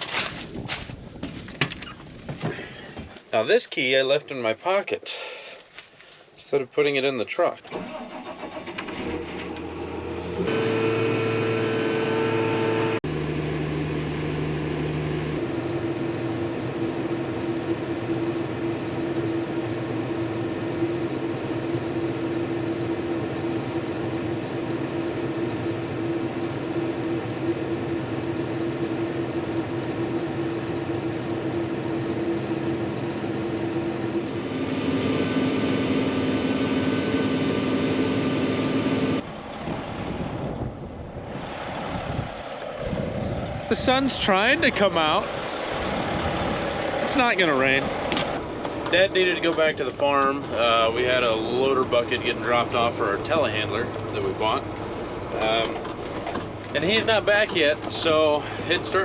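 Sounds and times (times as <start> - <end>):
truck engine running: 7.8 - 59.0.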